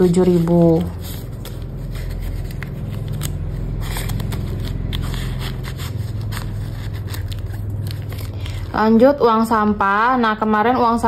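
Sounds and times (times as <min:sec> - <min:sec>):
plastic sleeve crinkling: 0:00.0 - 0:09.0
banknotes rustling: 0:00.0 - 0:09.1.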